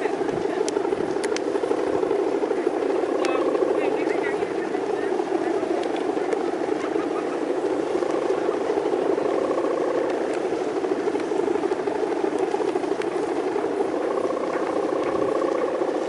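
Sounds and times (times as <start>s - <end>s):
kite hummer buzzing drone: 0.0s - 16.0s
strong wind: 0.0s - 16.0s.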